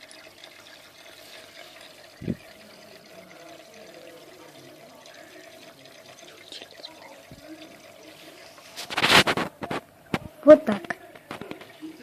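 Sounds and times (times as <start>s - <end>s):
faint steady hum: 0.0s - 12.0s
water trickling in aquarium: 0.0s - 12.0s.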